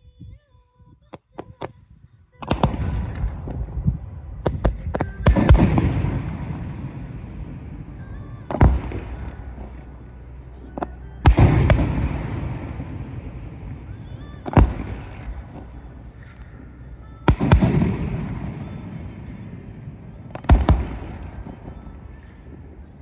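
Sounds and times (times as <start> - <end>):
firework bangs: 2.5 - 9.9, 10.8 - 23.0
echoing rumble: 2.5 - 23.0.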